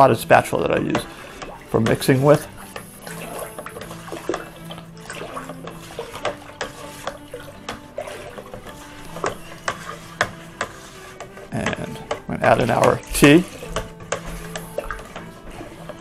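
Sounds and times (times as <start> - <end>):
liquid swishing: 0.0 - 16.0
spatula knocking container: 0.5 - 16.0.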